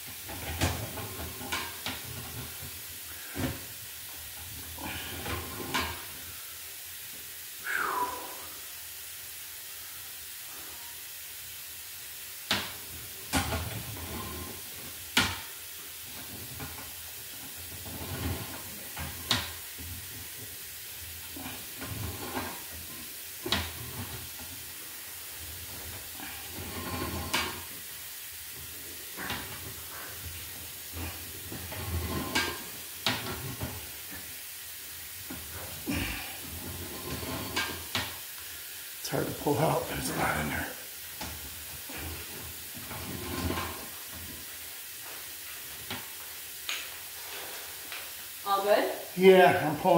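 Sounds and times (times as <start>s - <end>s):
water running through pipe: 0.0s - 49.9s.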